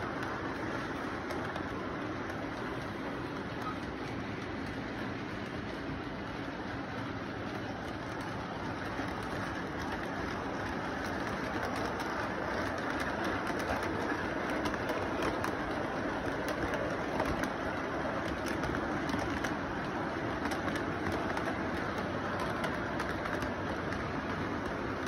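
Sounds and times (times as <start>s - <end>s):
model train rumbling on track: 0.0s - 25.0s
rail joint clicks: 0.0s - 25.0s.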